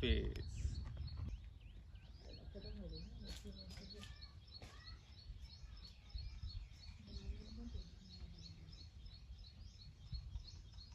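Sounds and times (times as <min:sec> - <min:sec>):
small bird chirping: 0:00.0 - 0:10.9.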